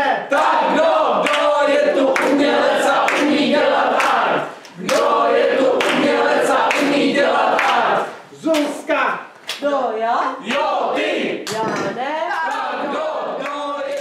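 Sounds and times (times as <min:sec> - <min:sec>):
group of voices singing: 0:00.0 - 0:08.3, 0:10.4 - 0:14.0.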